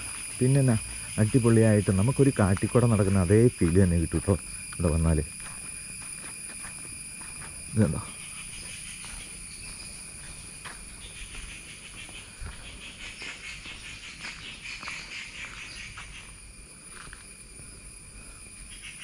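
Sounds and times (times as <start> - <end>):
insects chorus: 0.0 - 19.0
pulsing insect trill: 0.0 - 19.0.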